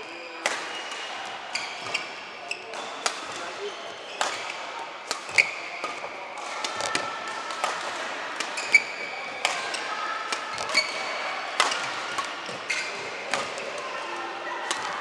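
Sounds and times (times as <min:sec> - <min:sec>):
racket hitting shuttlecock: 0:00.4 - 0:13.8, 0:14.6 - 0:15.0.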